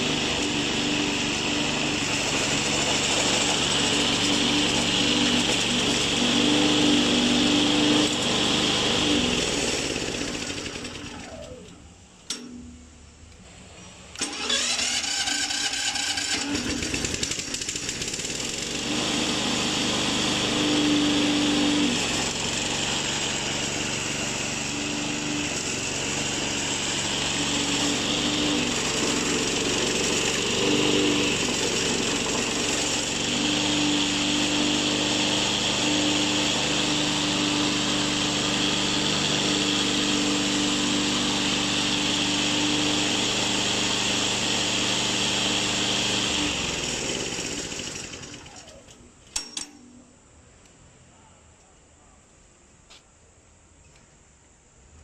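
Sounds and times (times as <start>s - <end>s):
petrol mower engine running: 0.0s - 49.8s.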